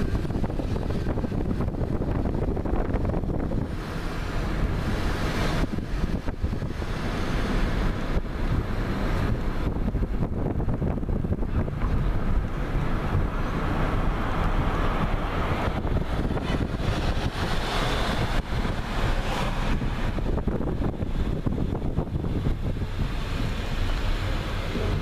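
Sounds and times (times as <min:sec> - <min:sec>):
car driving slowly rumble: 0:00.0 - 0:25.0
wind rushing over microphone: 0:00.0 - 0:25.0.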